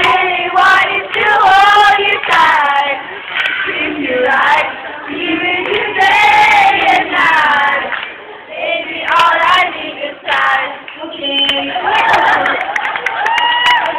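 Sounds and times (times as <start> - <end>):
young voices singing together: 0.0 - 13.9.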